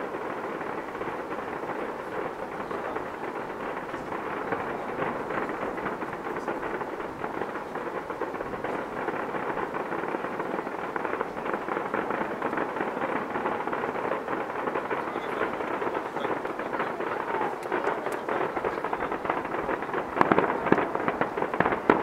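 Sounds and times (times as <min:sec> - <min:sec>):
distant fireworks crackling: 0:00.0 - 0:22.0.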